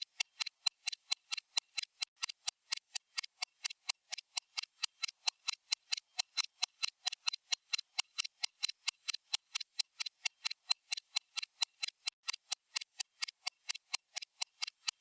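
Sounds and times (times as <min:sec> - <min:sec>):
stopwatch ticking: 0:00.0 - 0:15.0.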